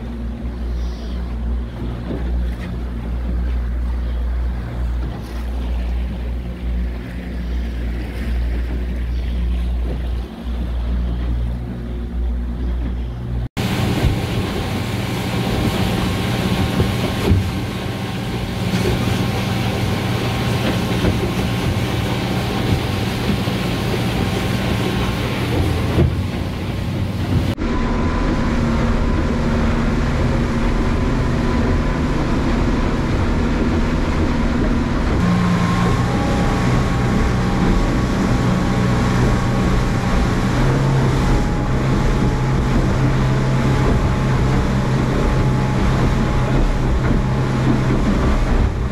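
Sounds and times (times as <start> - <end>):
outboard motor running: 0.0 - 48.9
wake water rushing: 0.0 - 48.9
wind on microphone: 0.0 - 48.9.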